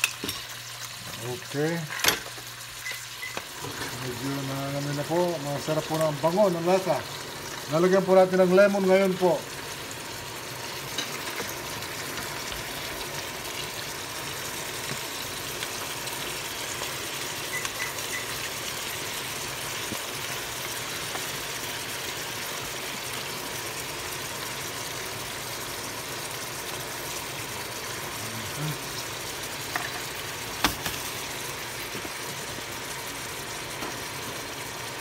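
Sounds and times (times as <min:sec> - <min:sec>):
fish sizzling in a pan: 0:00.0 - 0:35.0.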